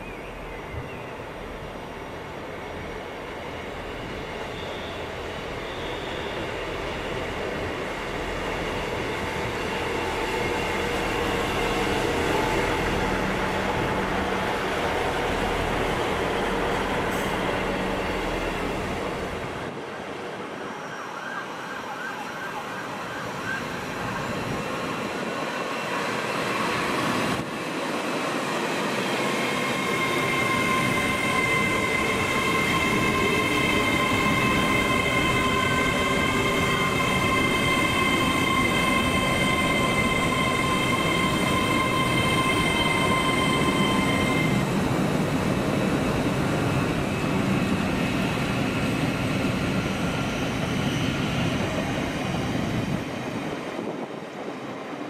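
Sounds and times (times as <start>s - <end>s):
diesel train running past: 0.0s - 55.0s
train high whine: 0.0s - 55.0s.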